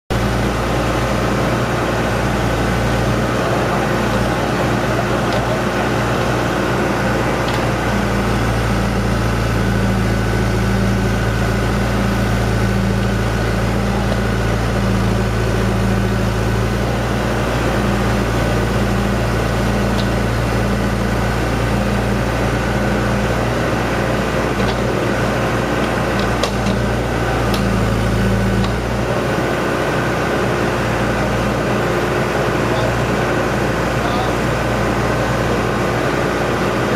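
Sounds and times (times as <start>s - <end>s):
backhoe engine running: 0.1s - 36.9s.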